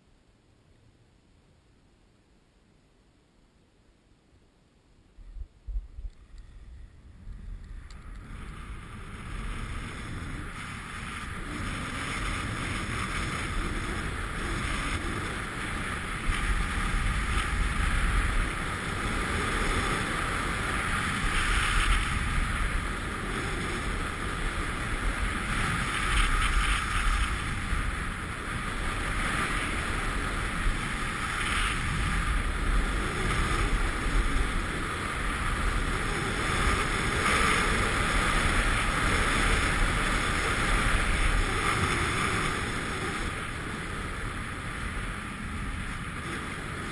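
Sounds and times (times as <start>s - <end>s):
wind rushing on microphone: 5.2s - 46.9s
skis scraping over snow: 6.2s - 46.9s.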